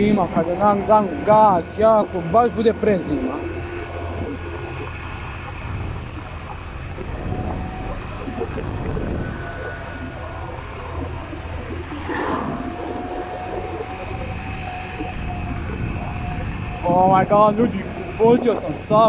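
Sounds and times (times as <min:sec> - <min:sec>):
wind noise on microphone: 0:03.2 - 0:19.0.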